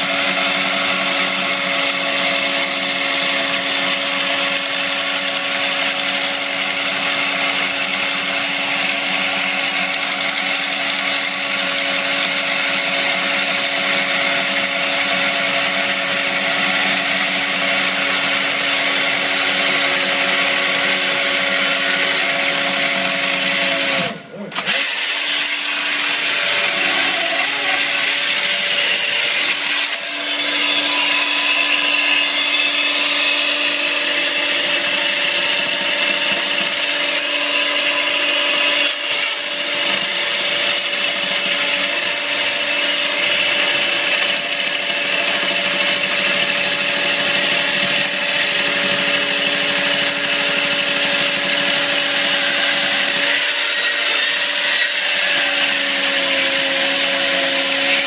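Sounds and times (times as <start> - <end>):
chainsaw grinding through concrete: 0.0 - 58.0.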